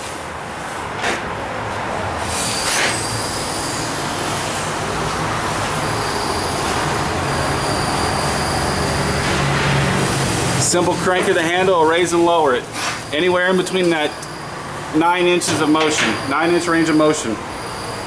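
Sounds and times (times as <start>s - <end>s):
metallic grinding and squeal: 2.2s - 4.7s, 5.7s - 18.0s.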